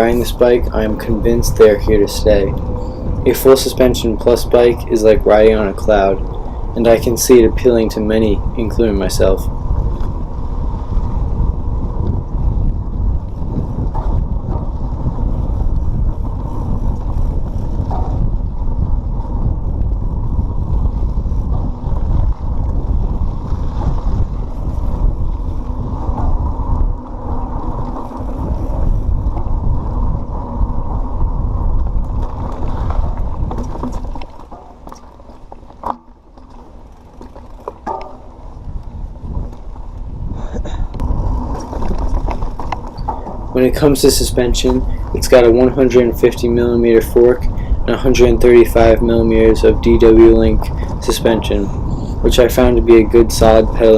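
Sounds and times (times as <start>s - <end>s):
bike rattling: 0.0s - 53.9s
bike tyres rumbling on dirt: 0.0s - 53.9s.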